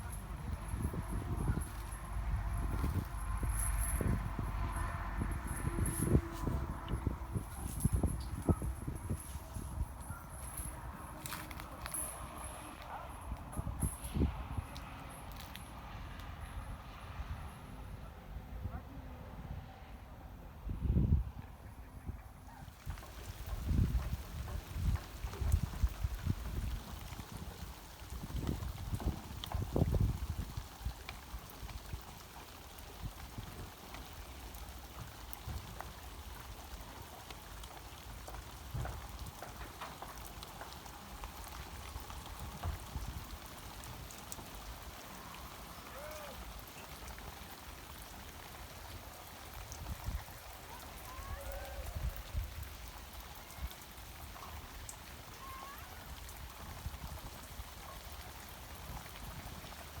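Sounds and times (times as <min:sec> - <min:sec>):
trickling water: 0:00.0 - 0:16.9, 0:22.4 - 1:00.0.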